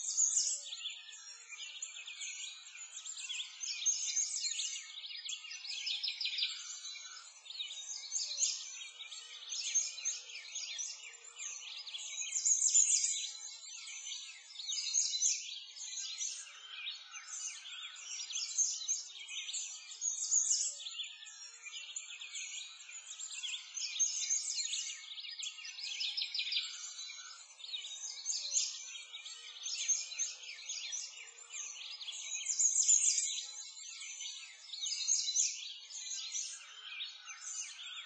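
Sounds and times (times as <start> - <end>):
songbirds chirping and trilling: 0.0 - 38.0.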